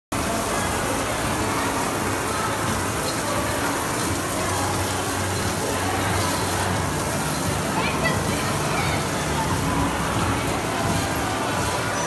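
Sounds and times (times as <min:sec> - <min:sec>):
water spraying and splashing: 0:00.1 - 0:12.0.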